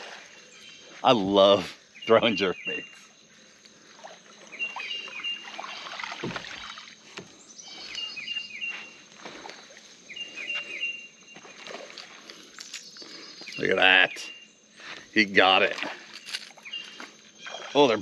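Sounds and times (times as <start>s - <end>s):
outdoor background noise: 0.0s - 18.0s
small bird singing: 0.4s - 3.3s, 4.4s - 6.0s, 7.3s - 18.0s.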